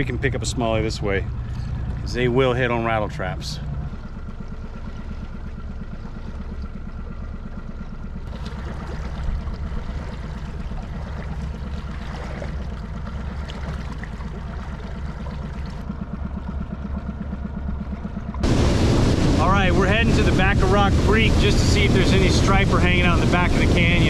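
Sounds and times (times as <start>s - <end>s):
boat motor running: 0.0s - 24.0s
water rushing along hull: 0.0s - 24.0s.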